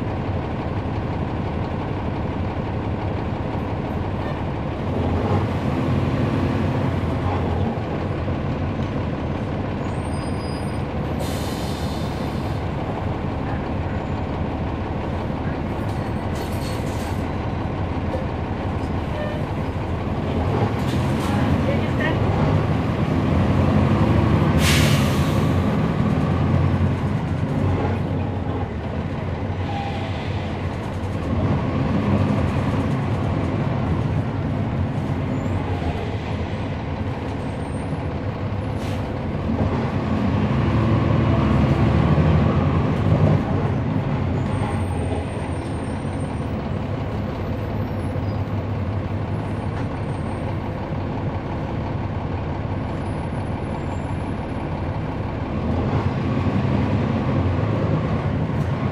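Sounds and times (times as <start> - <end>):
bus diesel engine running: 0.0 - 58.9
road and cabin noise: 0.0 - 58.9.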